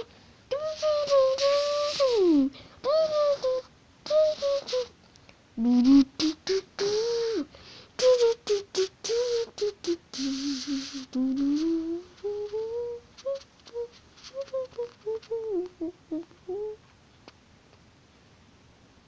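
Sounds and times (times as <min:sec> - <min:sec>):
hissing beatbox sounds: 0:00.0 - 0:05.0, 0:05.6 - 0:17.4
person singing a cappella: 0:00.0 - 0:05.0, 0:05.6 - 0:16.8.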